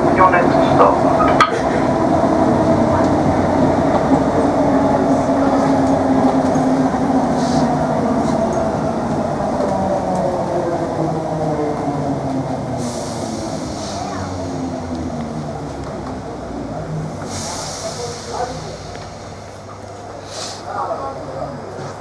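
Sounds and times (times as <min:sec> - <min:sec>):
rumble of train running gear: 0:00.0 - 0:22.0
train traction motor whine: 0:00.0 - 0:22.0.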